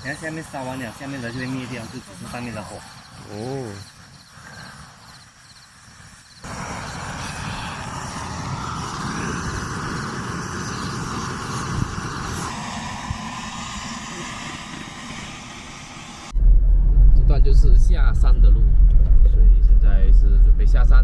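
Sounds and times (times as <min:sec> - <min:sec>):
burner flame roaring: 0:00.0 - 0:21.0.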